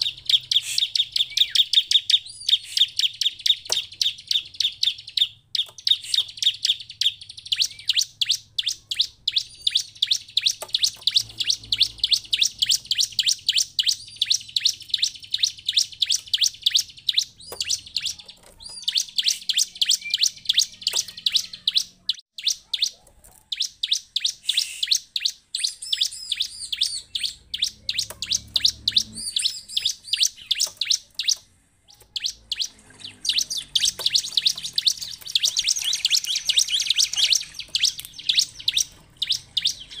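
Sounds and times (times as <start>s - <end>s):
bird high chirps: 0.0s - 40.0s.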